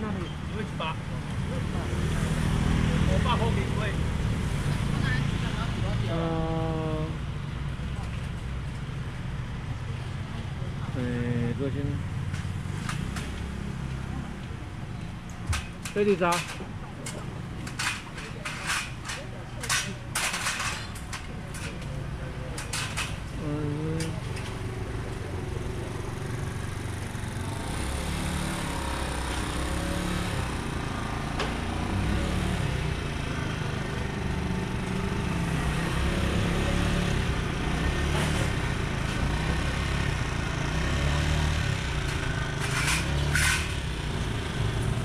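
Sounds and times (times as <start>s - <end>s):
low rumble of passing traffic: 0.0s - 45.0s.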